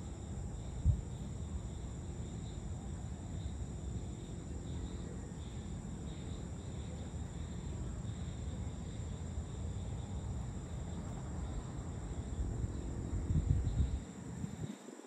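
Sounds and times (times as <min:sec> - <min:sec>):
continuous low rumble: 0:00.0 - 0:15.0
crickets trilling: 0:00.0 - 0:15.0.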